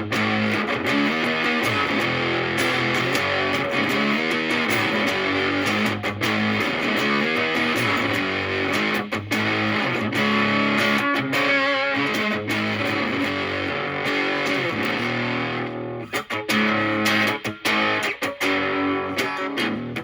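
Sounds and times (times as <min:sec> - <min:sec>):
fuzzy electric guitar lead: 0:00.0 - 0:20.0.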